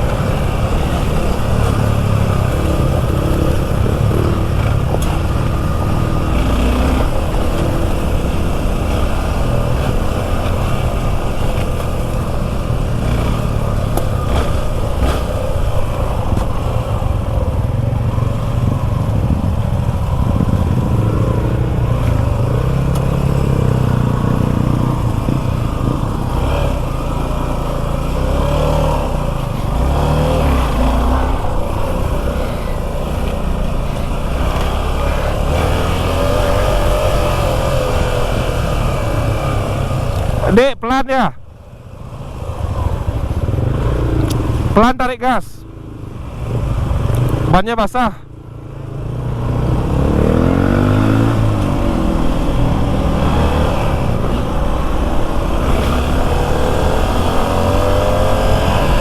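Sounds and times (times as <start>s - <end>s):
motorcycle engine running: 0.0s - 40.5s, 41.4s - 47.6s, 48.2s - 59.0s.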